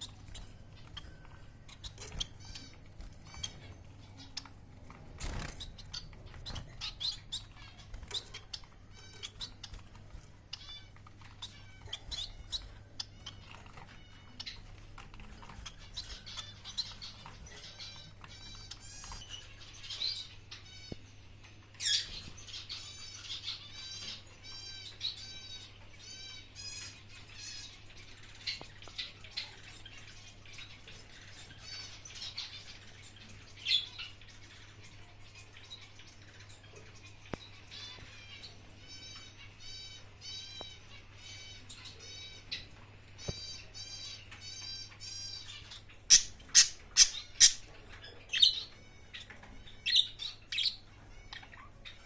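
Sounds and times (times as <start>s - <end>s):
pet birds chirping: 0.0s - 52.0s.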